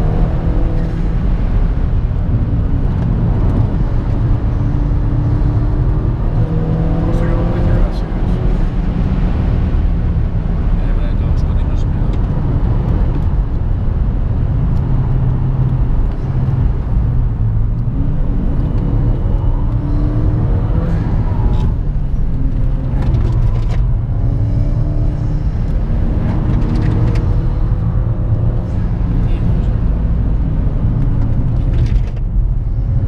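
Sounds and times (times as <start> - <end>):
car engine and exhaust accelerating: 0.0 - 33.0.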